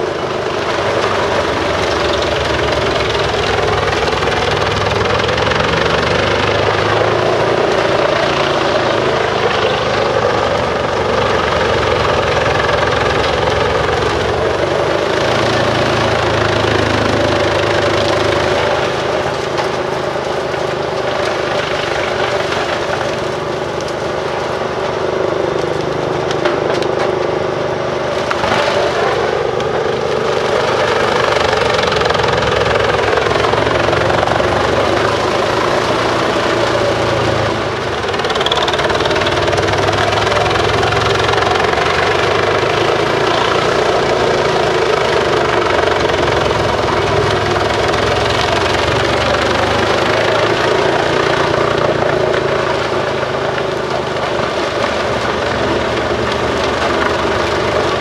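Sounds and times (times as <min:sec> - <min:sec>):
wood chipper running: 0:00.0 - 0:58.0.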